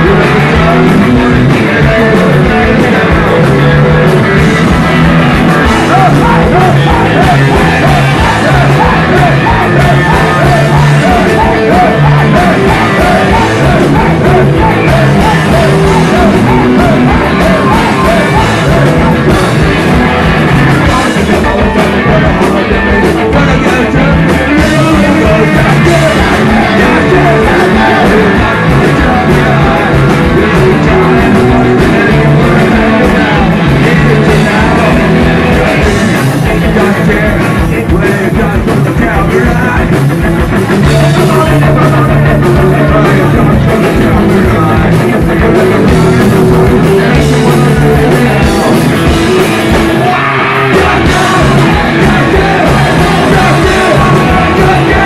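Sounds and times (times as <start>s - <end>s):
drum kit: 0.0s - 55.0s
electric guitars: 0.0s - 55.0s
person singing and shouting: 0.0s - 55.0s.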